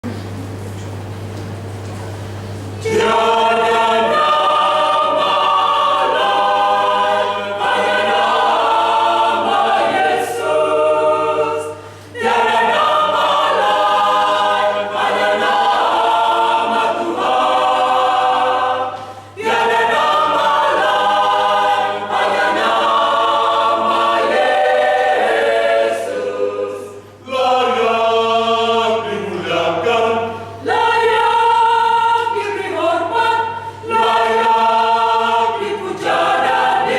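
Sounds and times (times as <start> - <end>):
church choir singing a hymn: 2.8 - 36.9.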